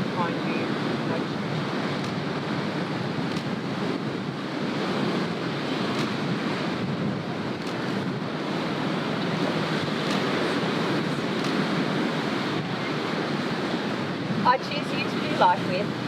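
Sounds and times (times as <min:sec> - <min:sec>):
ocean surf washing: 0:00.0 - 0:16.0
wind blowing across microphone: 0:00.0 - 0:16.0.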